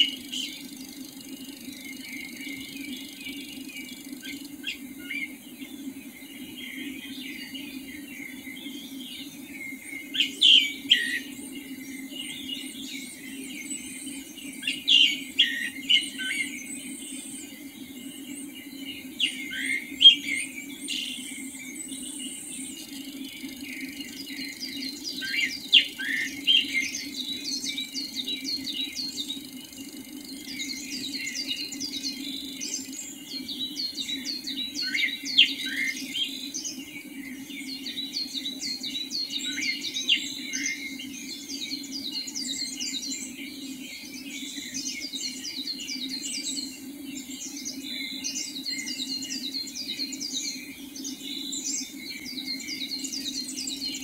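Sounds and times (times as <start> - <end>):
birds chirping in chorus: 0.0 - 54.0
steady low hum: 0.0 - 54.0.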